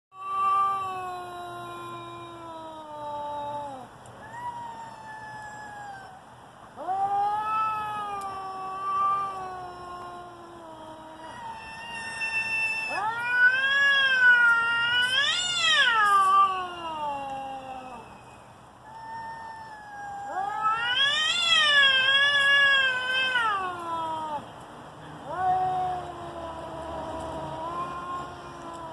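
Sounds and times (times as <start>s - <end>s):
cats yowling: 0.2s - 18.2s, 18.8s - 24.5s, 25.2s - 28.9s.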